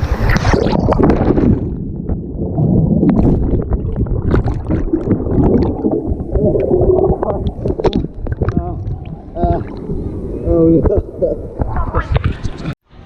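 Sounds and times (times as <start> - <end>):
water splashes: 0.0 - 12.7
muffled churning water: 0.0 - 12.8.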